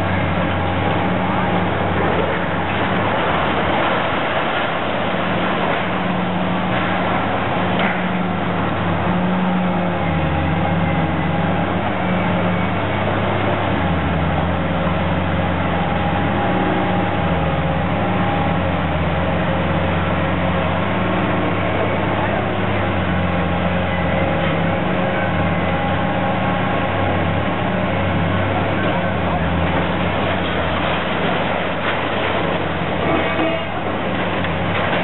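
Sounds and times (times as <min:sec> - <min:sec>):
diesel engines under load: 0:00.0 - 0:35.0.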